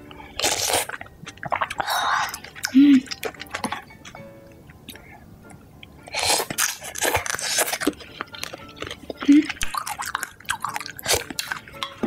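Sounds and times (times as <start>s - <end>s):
soft background music: 0.0s - 12.0s
loud crunching chewing: 0.3s - 4.2s, 6.1s - 12.0s.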